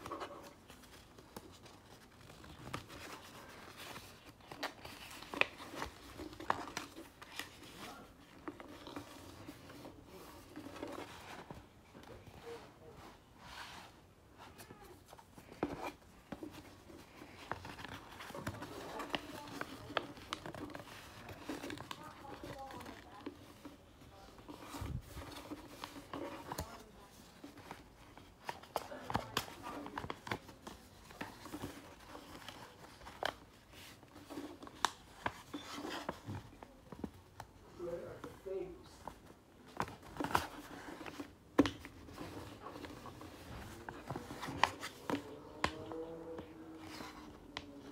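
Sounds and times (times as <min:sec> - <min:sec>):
paper rustling and crinkling: 0:00.0 - 0:47.9.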